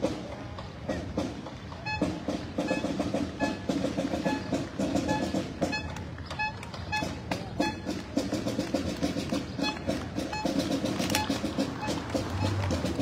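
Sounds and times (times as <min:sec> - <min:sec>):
marching drum cadence: 0:00.0 - 0:13.0.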